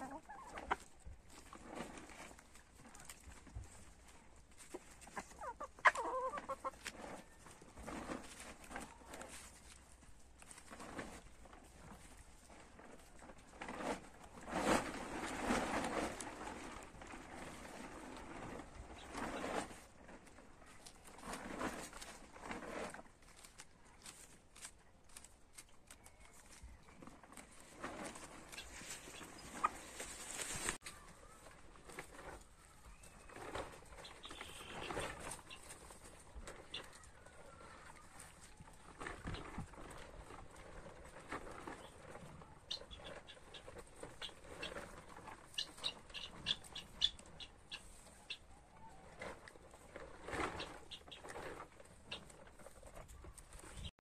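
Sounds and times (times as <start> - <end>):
chickens pecking leaves: 0.0 - 53.9
leaf rustling: 0.0 - 53.9.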